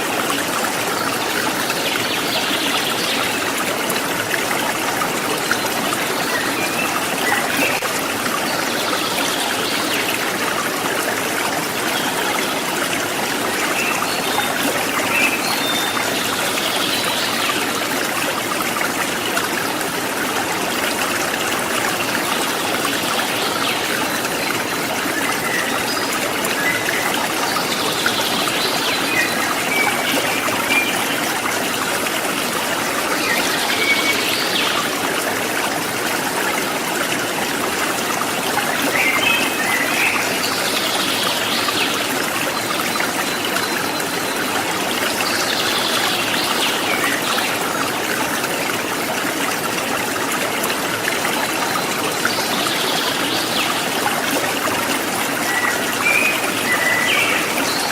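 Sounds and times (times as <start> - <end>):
river water running over rocks: 0.0 - 57.9.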